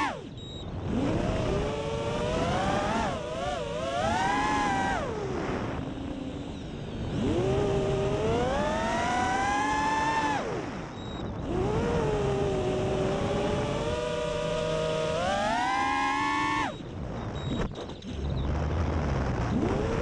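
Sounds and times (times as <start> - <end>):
quadcopter motors whining: 0.0 - 18.7, 19.4 - 20.0.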